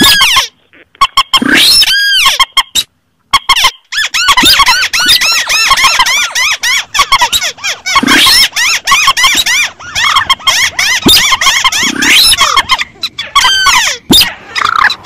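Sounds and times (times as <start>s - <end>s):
squeaky bird calls: 0.0s - 15.0s.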